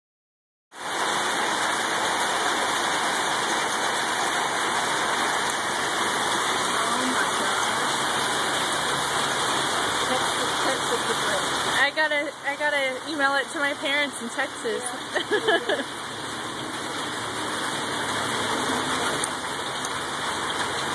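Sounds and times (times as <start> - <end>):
hail on pavement and cars: 0.8 - 20.9.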